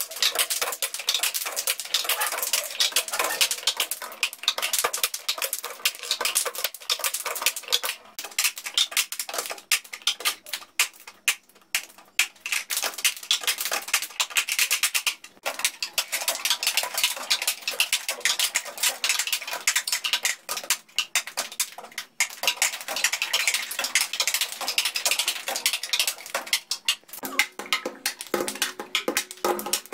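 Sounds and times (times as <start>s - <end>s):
hands tapping plastic cups: 0.0s - 29.9s.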